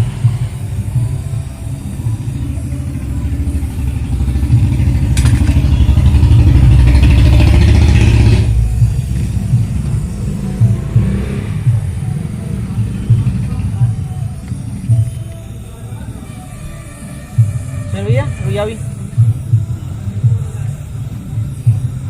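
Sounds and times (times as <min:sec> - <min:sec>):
engine throbbing: 0:00.0 - 0:22.0
hissing noise: 0:00.0 - 0:22.0.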